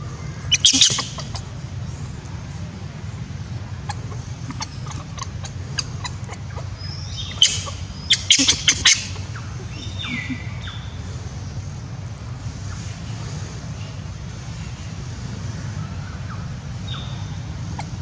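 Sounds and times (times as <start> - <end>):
birds chirping: 0.0 - 18.0
low background hum: 0.0 - 18.0.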